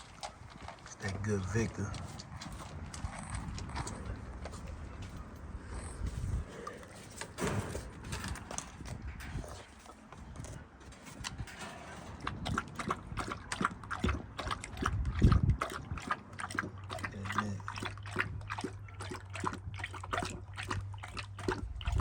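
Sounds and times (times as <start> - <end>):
dog lapping water: 0.0 - 22.0.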